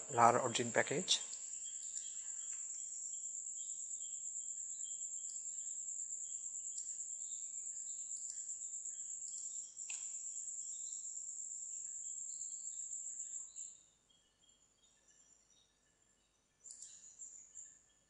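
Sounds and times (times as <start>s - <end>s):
cricket trilling: 0.0s - 14.9s
faint chirps: 0.0s - 18.0s.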